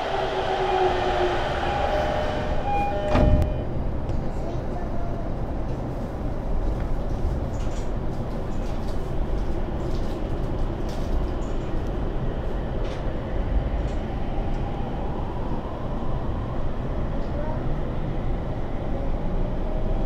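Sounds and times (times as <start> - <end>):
train running gear rumble: 0.0 - 20.0.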